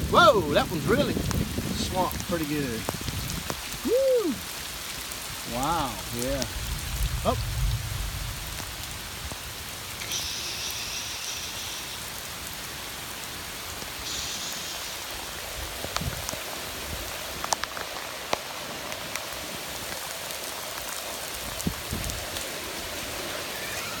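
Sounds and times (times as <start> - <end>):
heavy rain falling: 0.0 - 24.0
raindrops ticking nearby: 0.0 - 24.0.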